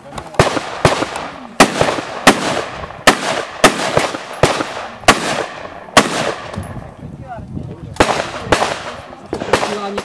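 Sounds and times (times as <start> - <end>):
rifle shots echoing: 0.2 - 6.8, 8.0 - 10.0.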